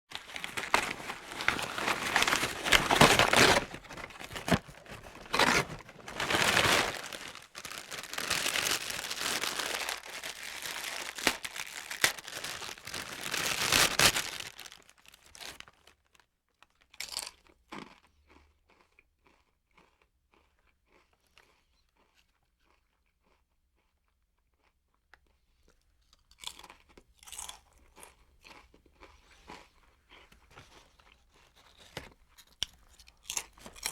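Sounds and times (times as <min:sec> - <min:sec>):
potato chips crunching: 0:00.1 - 0:25.2, 0:26.1 - 0:33.9.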